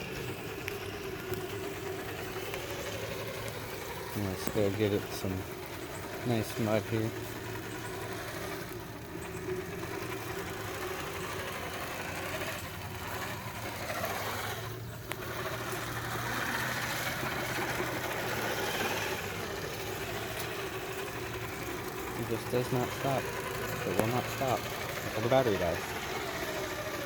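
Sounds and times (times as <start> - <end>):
electric motor whirring: 0.0 - 27.0.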